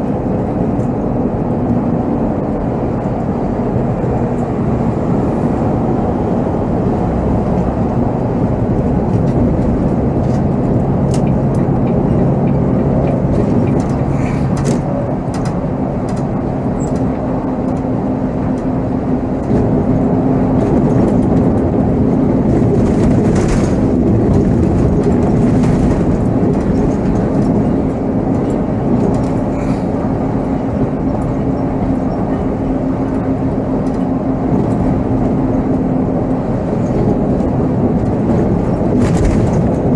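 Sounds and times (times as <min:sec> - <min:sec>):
bus diesel engine running: 0:00.0 - 0:39.9
road noise: 0:00.0 - 0:39.9.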